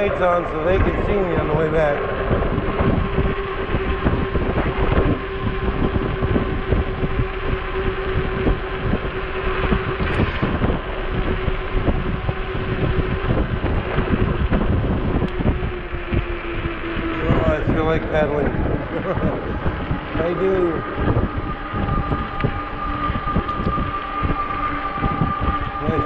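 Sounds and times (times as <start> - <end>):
electric motor hum: 0.0 - 26.0
wind buffeting microphone: 0.0 - 26.0.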